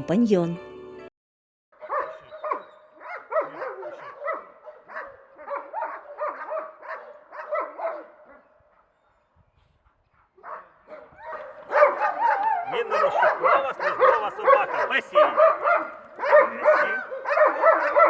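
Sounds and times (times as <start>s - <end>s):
dog barking and yelping: 1.8s - 9.0s, 9.9s - 18.0s.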